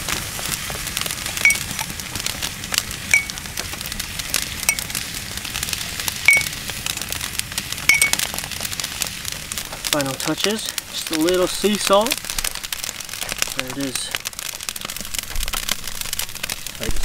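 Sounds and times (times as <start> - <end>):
faint steady crackle: 0.0 - 17.0.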